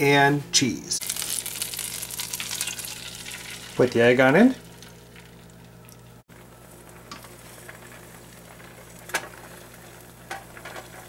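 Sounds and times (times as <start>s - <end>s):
egg sizzling in frying pan: 1.0s - 11.0s.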